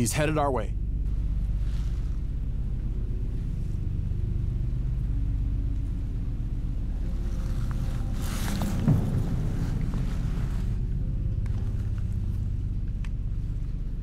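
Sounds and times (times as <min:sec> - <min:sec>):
low rumbling drone: 0:00.0 - 0:14.0.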